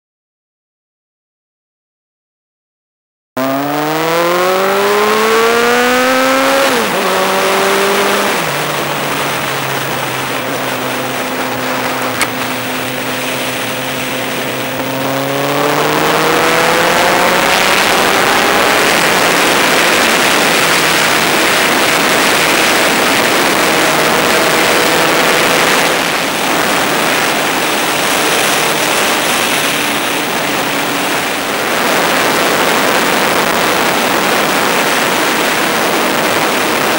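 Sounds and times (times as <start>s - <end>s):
motorcycle engine accelerating: 3.4s - 36.9s
wind noise: 3.4s - 36.9s.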